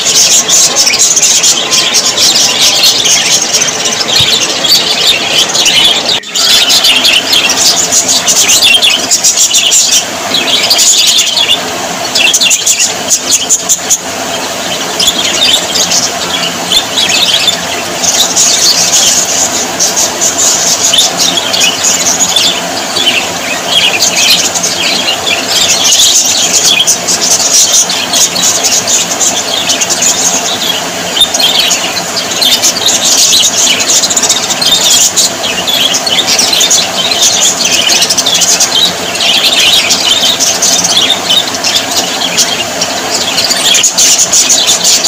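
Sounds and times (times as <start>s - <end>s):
budgerigars chirping: 0.0s - 45.0s.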